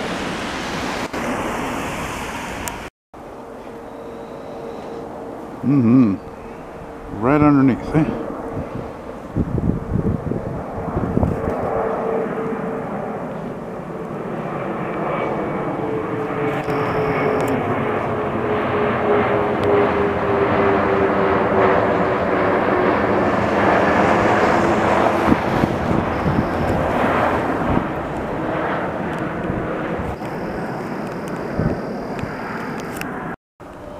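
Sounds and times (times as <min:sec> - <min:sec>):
jet airliner passing overhead: 0:00.0 - 0:33.9.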